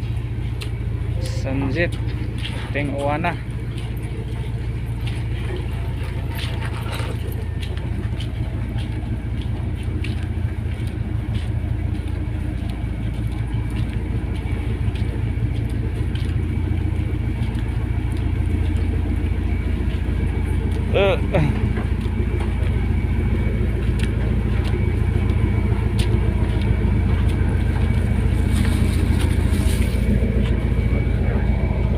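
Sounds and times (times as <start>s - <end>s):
low engine rumble: 0.0s - 31.9s.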